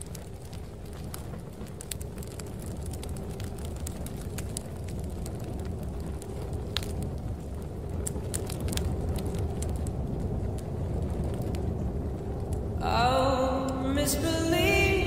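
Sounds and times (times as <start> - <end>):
fire crackling and popping: 0.0 - 15.0
storm wind rumble: 0.0 - 15.0.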